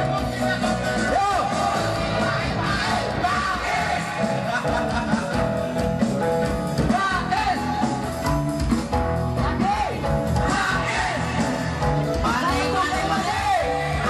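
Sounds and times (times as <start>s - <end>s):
music with singing: 0.0s - 14.0s
steady drum beat: 0.0s - 14.0s.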